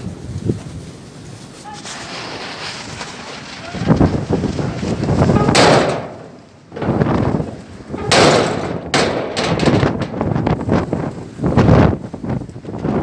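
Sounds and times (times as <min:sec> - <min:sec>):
wind gusts buffeting microphone: 0:00.0 - 0:01.6, 0:02.3 - 0:13.0.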